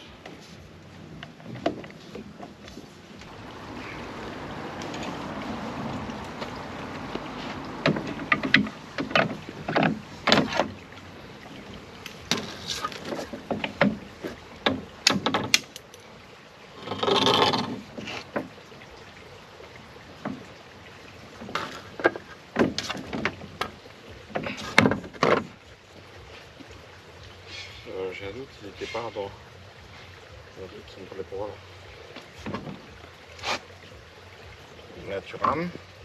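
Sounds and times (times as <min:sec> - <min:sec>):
oars and riggers clicking: 0:00.0 - 0:18.7, 0:19.6 - 0:34.0, 0:34.8 - 0:36.0.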